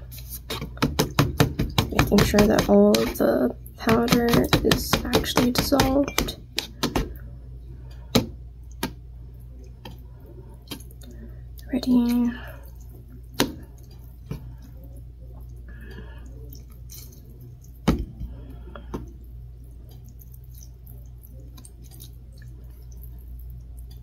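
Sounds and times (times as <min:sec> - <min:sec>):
steady low hum: 0:00.0 - 0:24.0
wet sounds of noodles and broth: 0:00.0 - 0:24.0.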